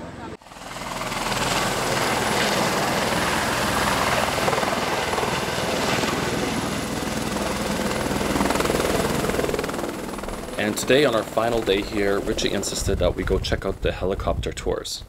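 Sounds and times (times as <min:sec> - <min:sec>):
helicopter engine and rotor: 0:00.0 - 0:13.7.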